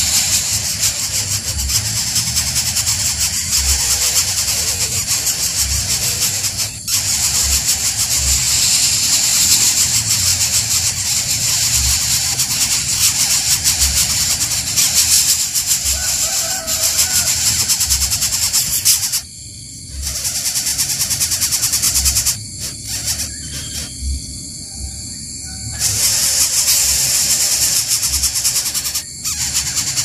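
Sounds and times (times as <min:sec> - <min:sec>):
nestlings begging with rasping hiss: 0:00.0 - 0:30.0.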